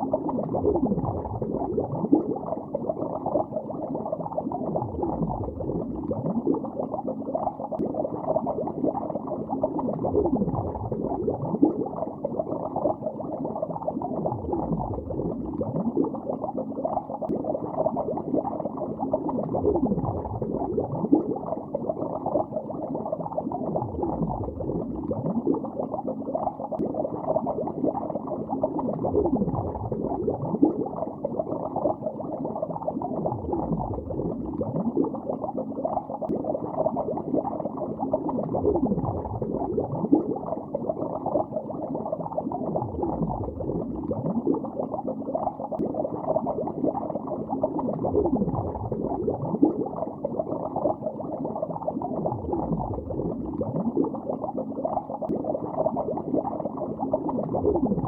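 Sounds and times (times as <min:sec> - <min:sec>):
muffled underwater bubbling: 0:00.0 - 0:58.0.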